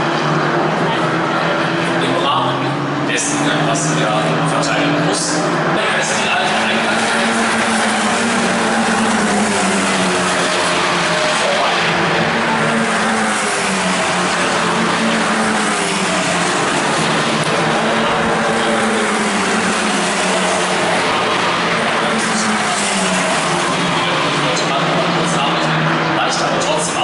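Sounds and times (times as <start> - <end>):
racing car engines droning: 0.0 - 27.0.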